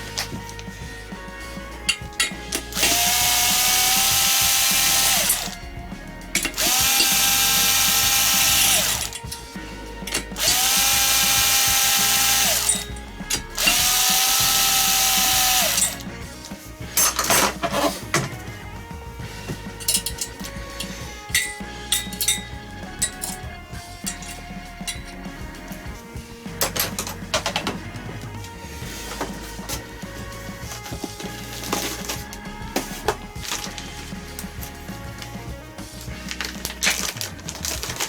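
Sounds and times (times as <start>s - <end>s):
power tool motor whining: 0.0s - 38.0s.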